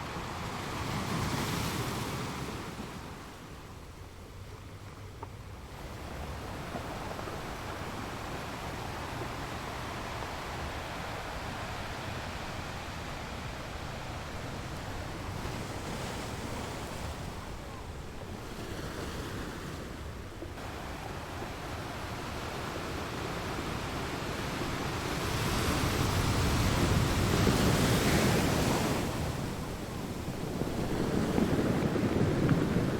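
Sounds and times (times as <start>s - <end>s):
ocean waves breaking on shore: 0.0s - 32.9s.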